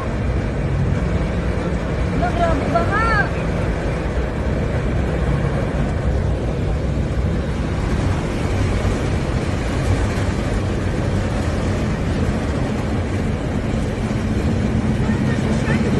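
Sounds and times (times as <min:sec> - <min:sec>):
vehicle and road rumble: 0:00.0 - 0:15.9.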